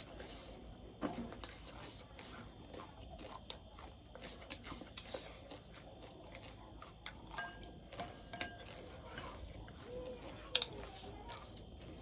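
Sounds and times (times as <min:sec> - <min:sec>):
crunching and chewing: 0:00.0 - 0:12.0.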